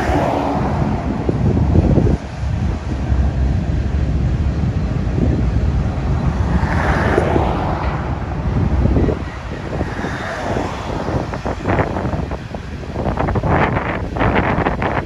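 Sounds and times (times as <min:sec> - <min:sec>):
freight train cars rumbling: 0:00.0 - 0:15.0
wind buffeting microphone: 0:00.0 - 0:15.0.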